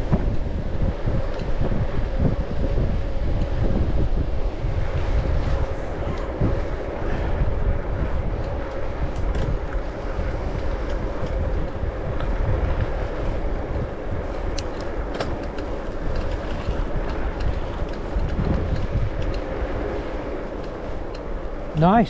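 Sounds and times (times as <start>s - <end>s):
road rolling noise: 0.0s - 22.0s
wind rushing over microphone: 0.0s - 22.0s.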